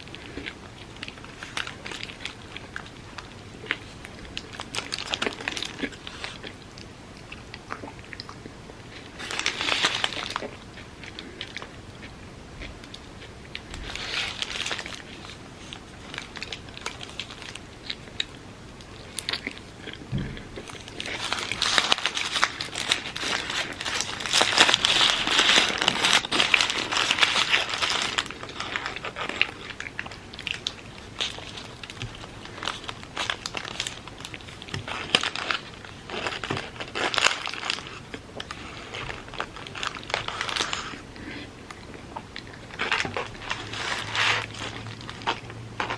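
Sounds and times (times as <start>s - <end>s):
crunchy wet chewing: 0.0s - 45.9s.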